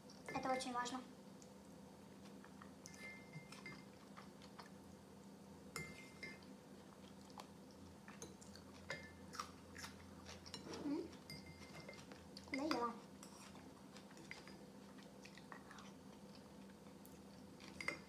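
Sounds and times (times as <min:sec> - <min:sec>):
soft chewing: 0:01.3 - 0:18.0.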